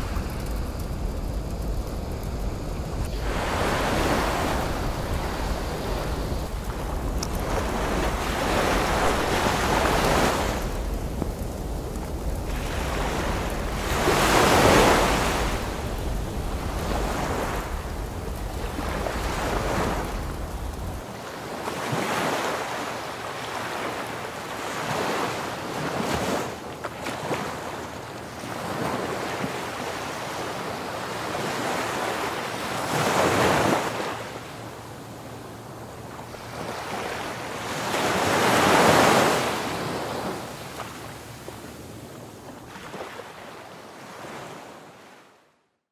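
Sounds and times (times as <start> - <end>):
ocean surf breaking: 0.0 - 26.5, 28.4 - 45.0
wind rumble on microphone: 0.0 - 43.2.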